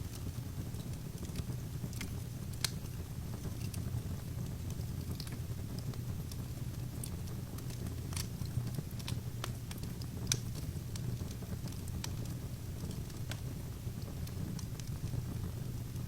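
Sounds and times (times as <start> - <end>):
fire pops and snaps: 0.0 - 16.0
flames rumbling: 0.0 - 16.0.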